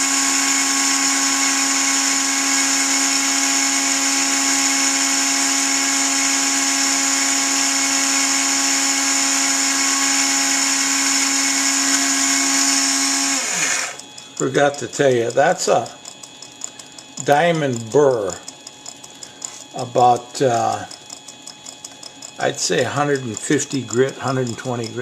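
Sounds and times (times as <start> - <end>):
rotary tool whining: 0.0 - 25.0.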